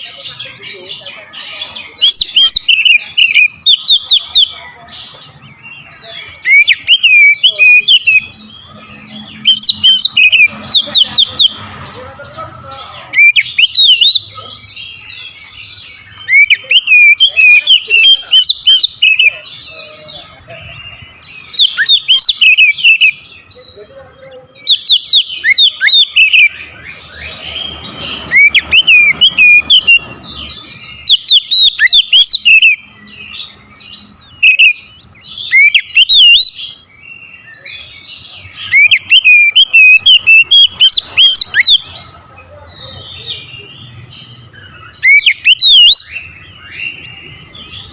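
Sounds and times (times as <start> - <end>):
bird singing whistles and chirps: 1.7 - 4.6, 5.2 - 11.6, 13.1 - 23.8, 24.4 - 41.9, 43.1 - 47.9.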